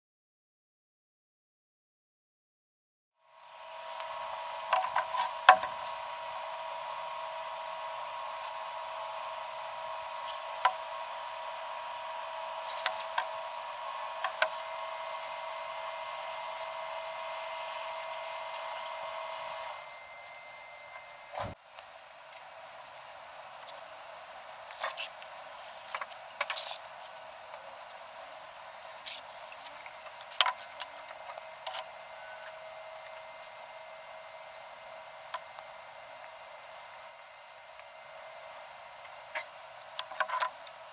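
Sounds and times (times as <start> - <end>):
steady background hum: 3.2 - 40.9.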